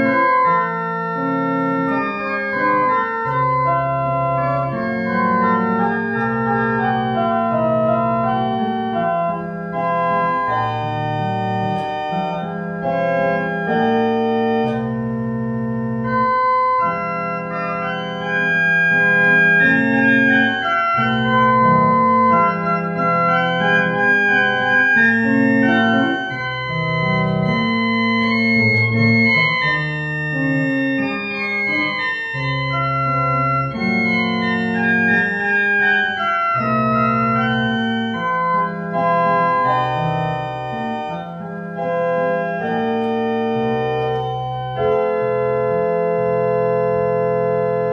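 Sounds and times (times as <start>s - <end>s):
church organ playing a hymn: 0.0s - 47.9s.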